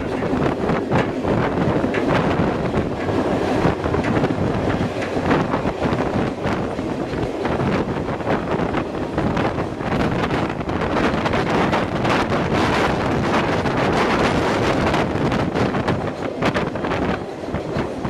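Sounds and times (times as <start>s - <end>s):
train running noise: 0.0s - 18.0s
wind buffeting microphone: 0.0s - 18.0s.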